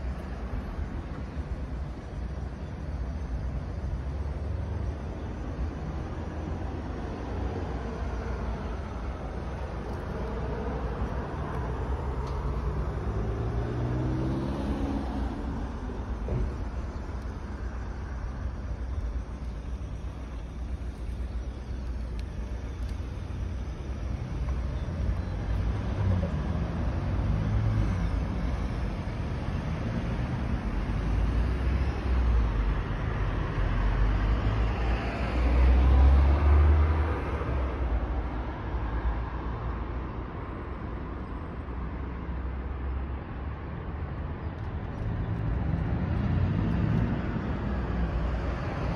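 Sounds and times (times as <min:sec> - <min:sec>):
vehicles passing by: 0:00.0 - 0:48.9.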